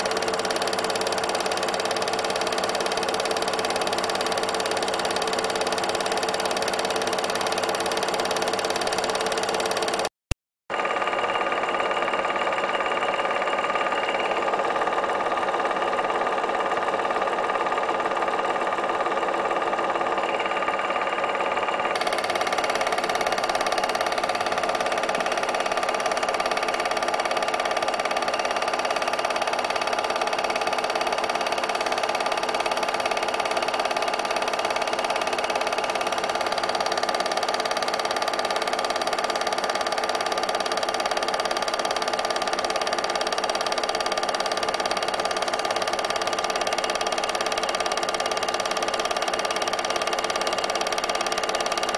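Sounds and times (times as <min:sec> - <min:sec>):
film projector whirring: 0:00.0 - 0:10.1, 0:10.7 - 0:51.9.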